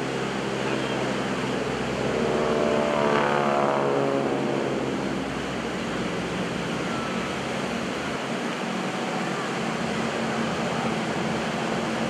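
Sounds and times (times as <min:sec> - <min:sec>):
propeller aircraft passing: 0:00.0 - 0:12.0.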